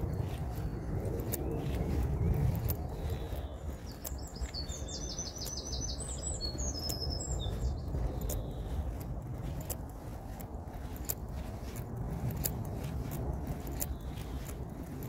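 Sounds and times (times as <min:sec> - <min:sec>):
songbird singing: 0:00.0 - 0:15.0
steady low rumble: 0:00.0 - 0:15.0.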